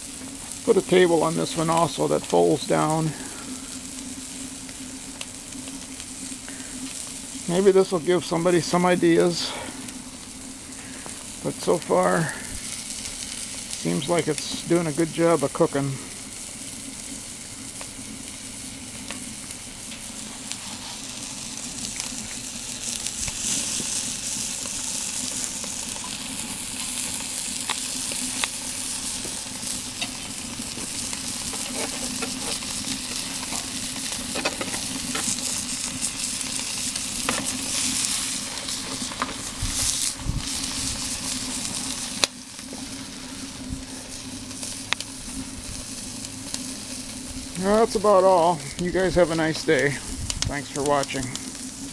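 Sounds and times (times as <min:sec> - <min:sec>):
patties sizzling in a foil pan: 0:00.0 - 0:51.9.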